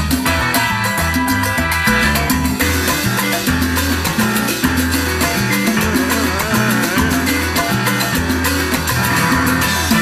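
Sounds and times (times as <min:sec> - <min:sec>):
bass line: 0:00.0 - 0:10.0
conga strikes: 0:00.0 - 0:10.0
electric piano: 0:00.0 - 0:10.0.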